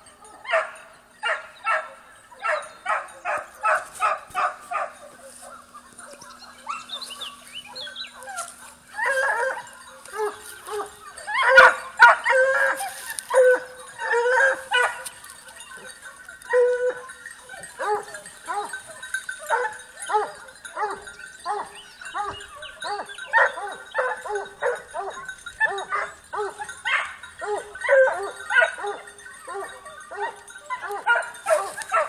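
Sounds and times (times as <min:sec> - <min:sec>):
hounds baying: 0:00.0 - 0:32.0.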